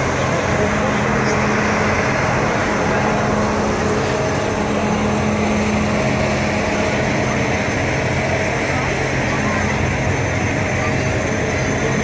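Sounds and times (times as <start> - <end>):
crowd murmur: 0.0 - 12.0
train engines droning: 0.0 - 12.0.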